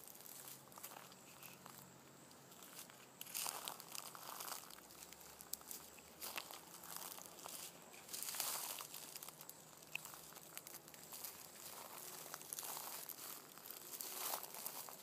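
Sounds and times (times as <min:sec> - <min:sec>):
dry leaves rustling and crunching: 0:00.0 - 0:01.8, 0:02.5 - 0:15.0.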